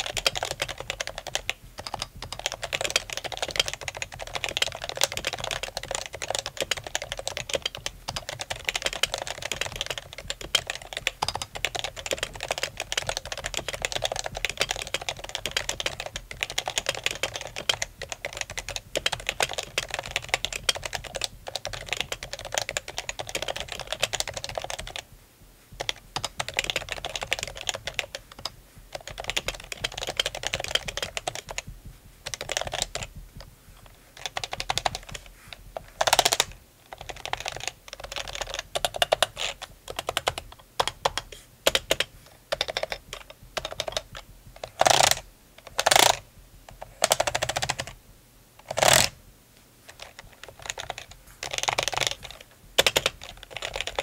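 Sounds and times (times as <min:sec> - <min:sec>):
clacky keyboard typing: 0:00.0 - 0:25.1, 0:25.7 - 0:48.0, 0:48.6 - 0:49.2, 0:49.9 - 0:54.0.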